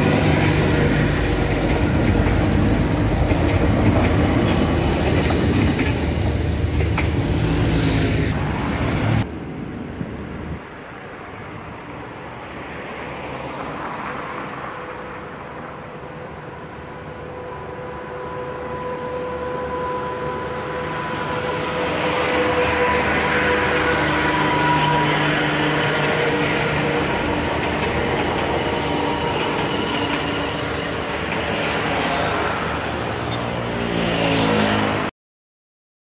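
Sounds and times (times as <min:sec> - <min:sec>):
train rumble and wheel noise: 0:00.0 - 0:35.1.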